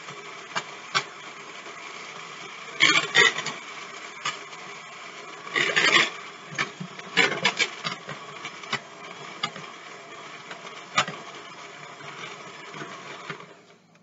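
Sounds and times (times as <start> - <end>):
electric hand mixer running: 0.0 - 13.9.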